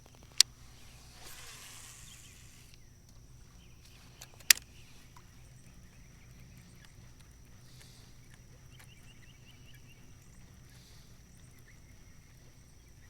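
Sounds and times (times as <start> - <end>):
faint chirps: 0.0 - 13.0
high thin insect-like whine: 0.0 - 13.0.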